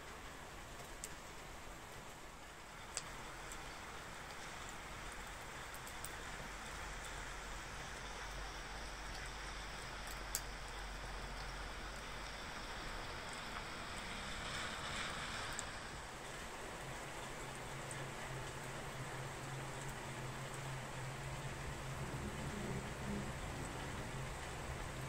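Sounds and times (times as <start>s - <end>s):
fire crackling: 0.0s - 25.0s
rain falling: 0.0s - 25.0s.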